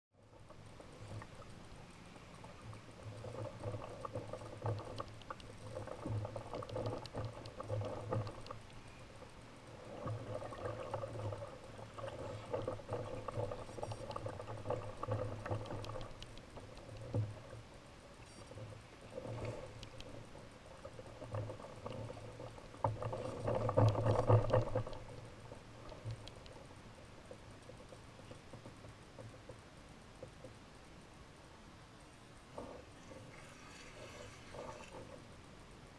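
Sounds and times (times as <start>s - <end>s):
water sloshing against hull: 0.2s - 30.6s, 32.4s - 35.9s.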